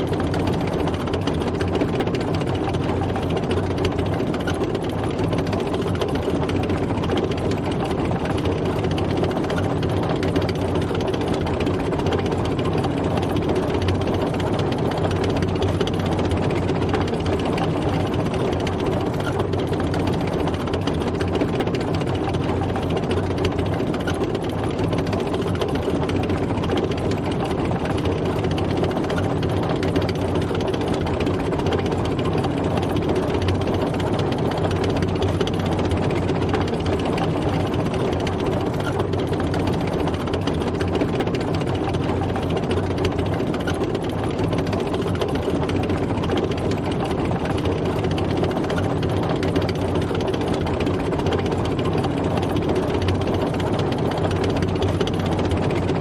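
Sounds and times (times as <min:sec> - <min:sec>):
tank engine running: 0:00.0 - 0:56.0.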